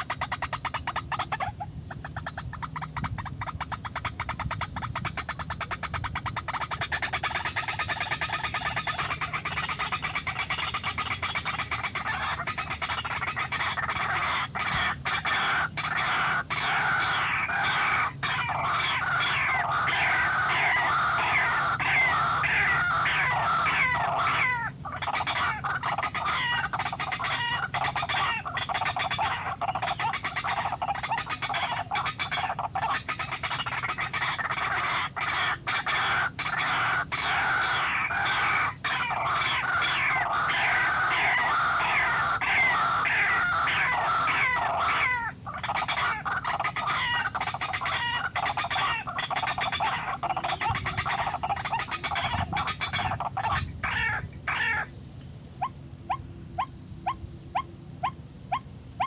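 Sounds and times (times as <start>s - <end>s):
waterhen calling rapid notes: 0.0s - 54.9s, 55.6s - 59.0s.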